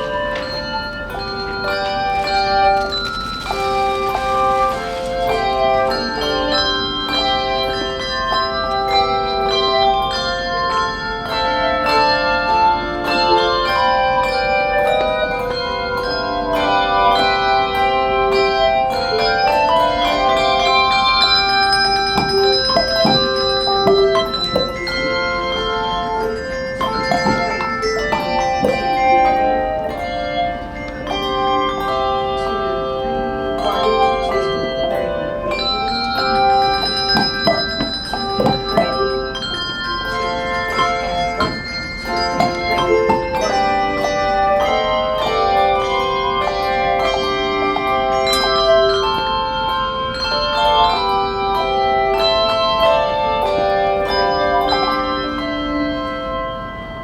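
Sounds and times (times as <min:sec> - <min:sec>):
handbell choir playing: 0:00.0 - 0:57.0.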